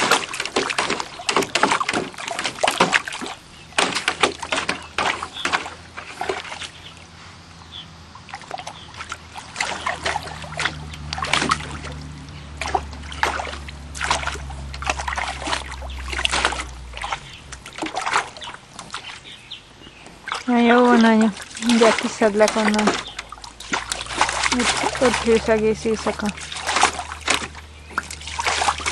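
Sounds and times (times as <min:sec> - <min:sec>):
low steady hum: 0:00.0 - 0:28.9
pool water splashing: 0:00.0 - 0:28.9.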